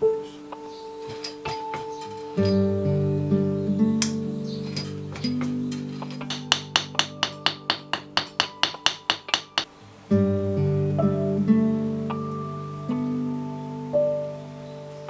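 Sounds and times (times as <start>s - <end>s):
acoustic guitar strumming: 1.6s - 14.0s.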